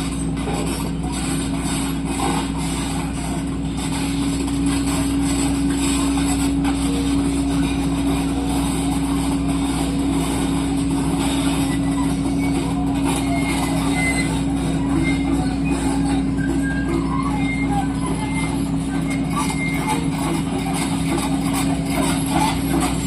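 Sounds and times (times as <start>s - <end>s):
heavy diesel machinery humming: 0.0s - 23.0s.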